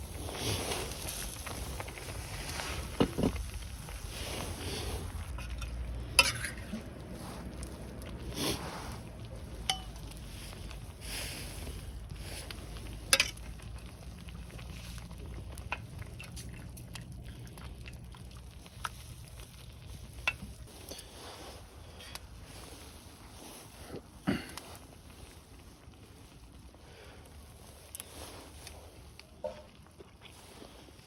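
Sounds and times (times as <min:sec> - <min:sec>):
faint steady sizzle: 0:00.0 - 0:31.0.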